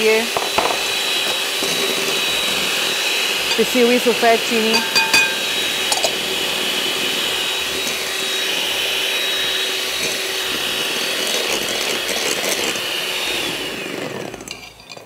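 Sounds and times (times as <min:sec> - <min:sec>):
electric hand mixer whining: 0:00.0 - 0:15.0.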